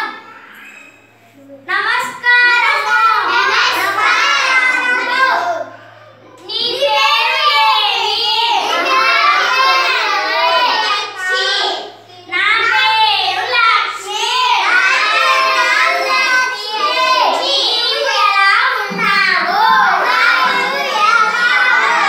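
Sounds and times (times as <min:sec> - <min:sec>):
children reciting in chorus: 0:02.2 - 0:22.0.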